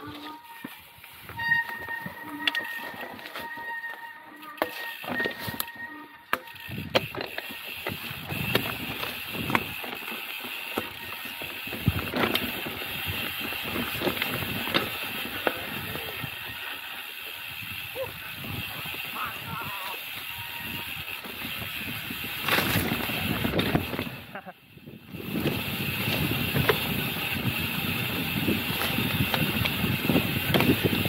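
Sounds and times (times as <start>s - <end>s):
mountain bike rattling: 0.0s - 31.0s
bike knocking on bumps: 0.6s - 15.9s, 19.8s - 24.2s, 25.1s - 31.0s.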